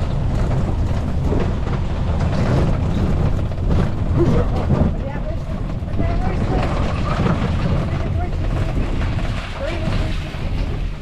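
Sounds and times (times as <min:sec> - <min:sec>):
vehicle rumbling on rough track: 0:00.0 - 0:11.0.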